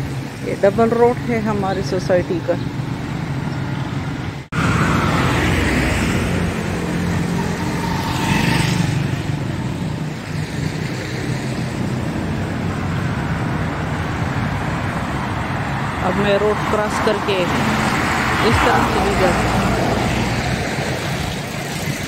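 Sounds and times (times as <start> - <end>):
cars passing on wet road: 0.0 - 22.0.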